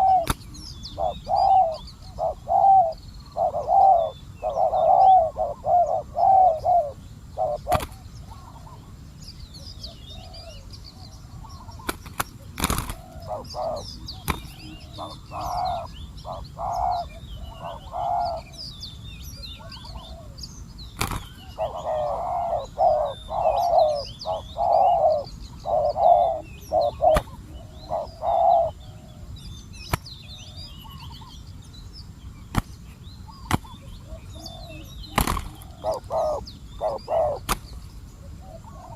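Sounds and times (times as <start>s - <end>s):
doves cooing: 0.0s - 9.0s, 9.8s - 18.6s, 19.6s - 20.4s, 21.0s - 29.4s, 33.3s - 38.9s
small birds chirping: 0.0s - 38.9s.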